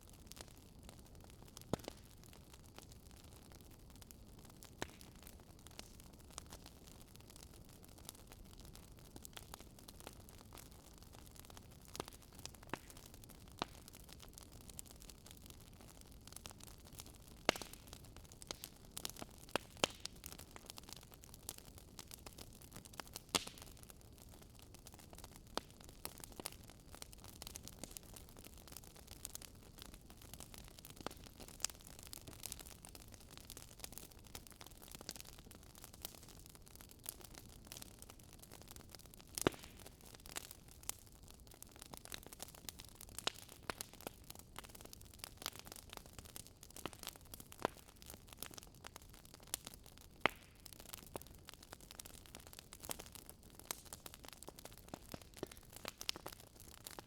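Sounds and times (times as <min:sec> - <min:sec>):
bonfire crackling: 0:00.0 - 0:57.0.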